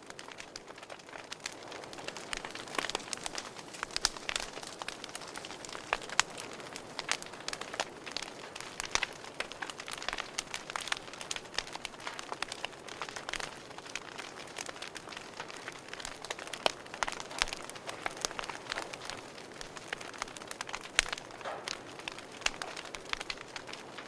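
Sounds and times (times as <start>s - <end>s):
soft fire hiss: 0.0s - 24.0s
wood fire crackling and popping: 0.0s - 24.0s.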